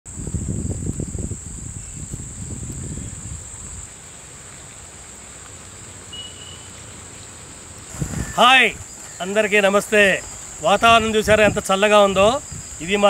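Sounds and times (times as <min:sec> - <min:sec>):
insects chirring: 0:00.1 - 0:13.0.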